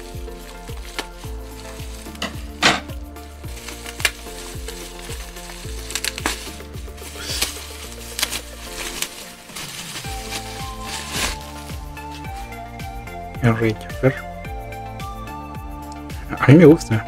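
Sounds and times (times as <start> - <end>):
bubble wrap crinkling: 0.0 - 16.2
background music with steady beat: 0.0 - 17.0.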